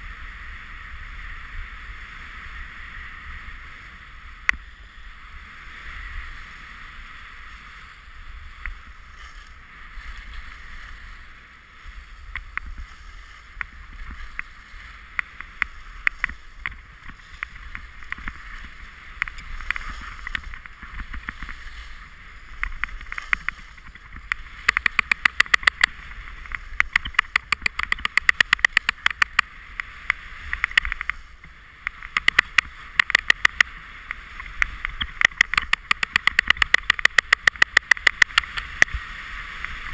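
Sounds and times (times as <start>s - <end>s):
skis sliding on snow: 0.0s - 39.9s.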